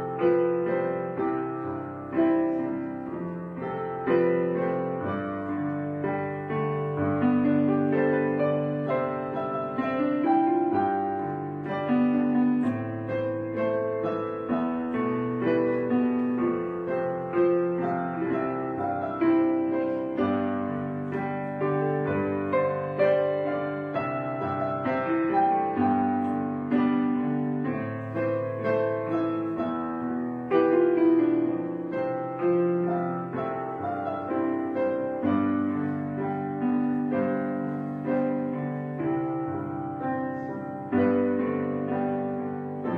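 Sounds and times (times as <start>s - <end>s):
piano music: 0.0s - 42.9s.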